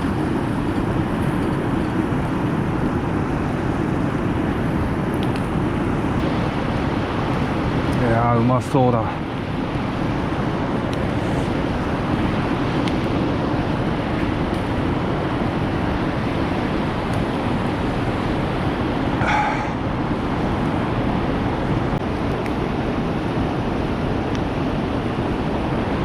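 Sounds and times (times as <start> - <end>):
faint fire crackles: 0.0 - 26.0.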